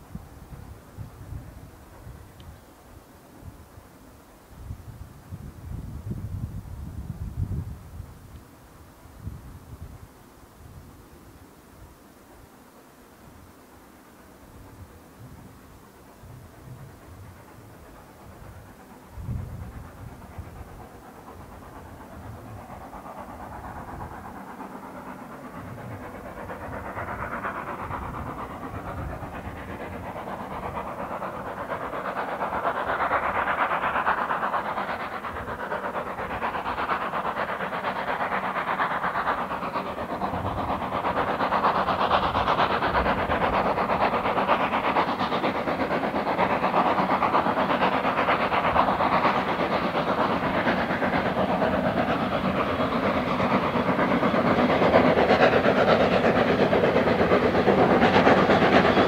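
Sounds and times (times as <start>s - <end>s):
steam locomotive exhaust: 0.0s - 59.0s
train running on rails: 0.0s - 59.0s.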